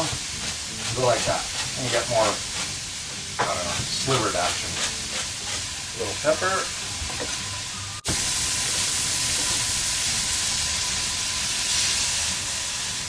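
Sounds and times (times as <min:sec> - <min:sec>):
meat sizzling in a frying pan: 0:00.0 - 0:13.0.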